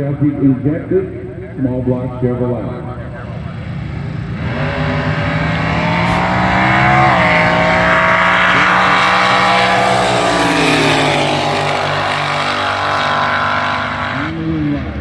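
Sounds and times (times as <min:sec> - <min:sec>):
dragster engine at full throttle: 0:01.2 - 0:15.0.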